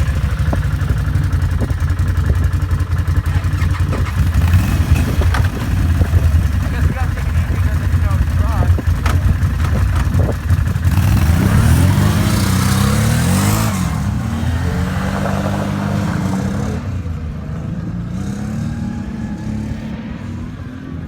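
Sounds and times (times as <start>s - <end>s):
quad engine revving: 0.0s - 21.0s.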